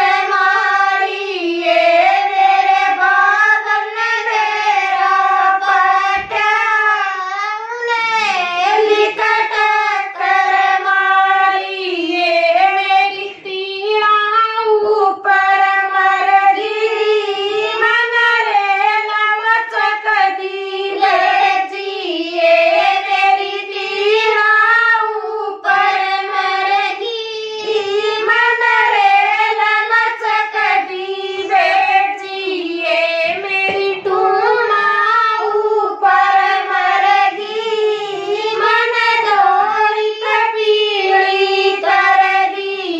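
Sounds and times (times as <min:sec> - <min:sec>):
women singing unaccompanied: 0:00.0 - 0:42.9.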